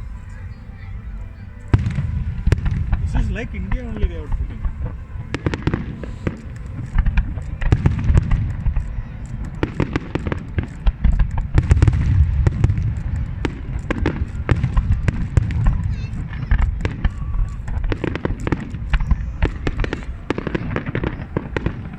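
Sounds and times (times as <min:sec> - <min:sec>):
low rumble of fireworks booms: 0:00.0 - 0:21.9
fireworks cracking and popping: 0:01.6 - 0:21.9.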